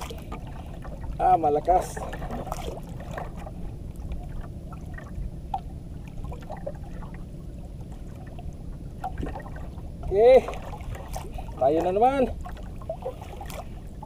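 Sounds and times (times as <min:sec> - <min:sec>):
steady low rumble: 0:00.0 - 0:14.0
water lapping against hull: 0:00.0 - 0:14.0.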